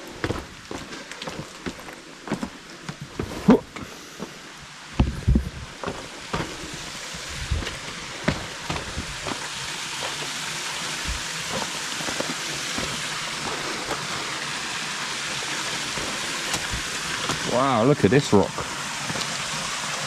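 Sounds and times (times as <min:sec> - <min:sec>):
footsteps on stony ground: 0:00.0 - 0:17.8, 0:18.6 - 0:19.4
stream rushing: 0:00.0 - 0:20.0.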